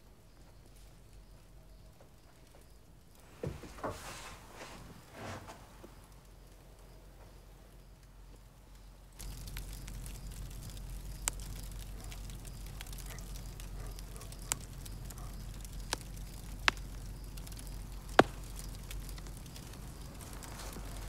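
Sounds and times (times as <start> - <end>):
low background rumble: 0.0 - 21.0
campfire logs popping: 0.2 - 3.9, 7.8 - 21.0.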